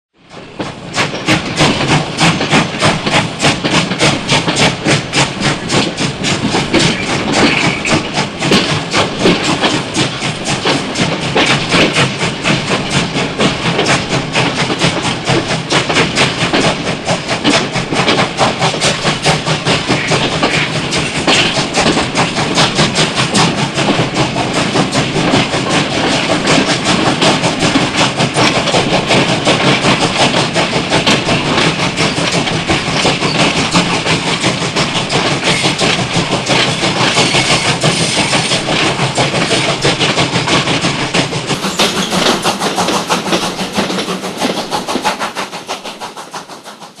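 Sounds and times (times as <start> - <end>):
steam train chugging: 0.2 - 47.0
train clatter: 0.2 - 47.0.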